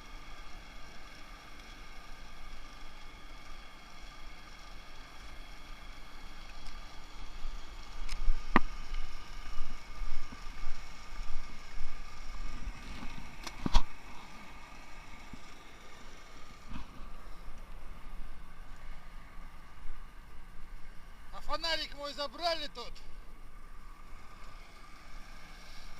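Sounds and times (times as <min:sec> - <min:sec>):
small engine running: 0:00.0 - 0:25.9.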